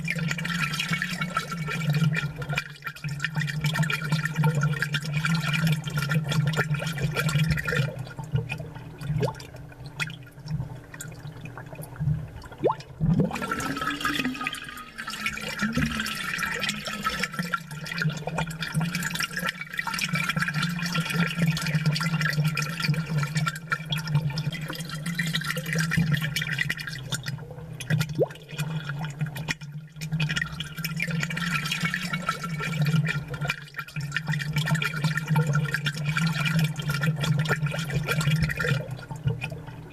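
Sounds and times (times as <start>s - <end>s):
aquarium water bubbling: 0.0s - 39.9s
pump humming: 0.0s - 39.9s.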